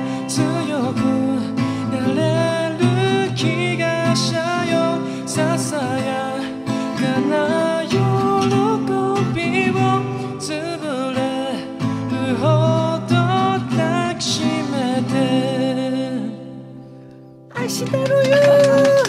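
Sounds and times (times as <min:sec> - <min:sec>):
man singing: 0:00.0 - 0:16.6, 0:17.5 - 0:19.0
strummed acoustic guitar: 0:00.0 - 0:19.0.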